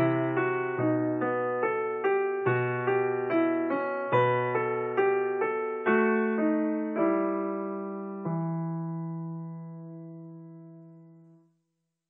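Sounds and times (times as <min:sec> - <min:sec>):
gentle piano melody: 0:00.0 - 0:11.4.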